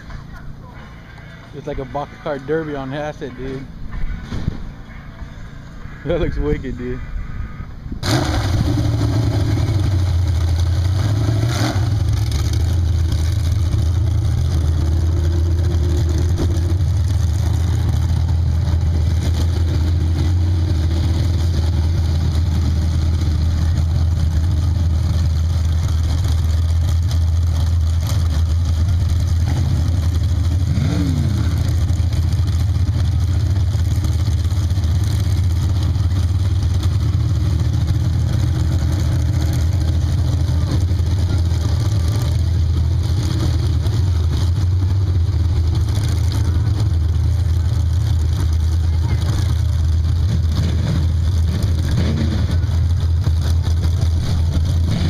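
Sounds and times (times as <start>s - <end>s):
engine idling with deep rumble: 0.0s - 55.0s.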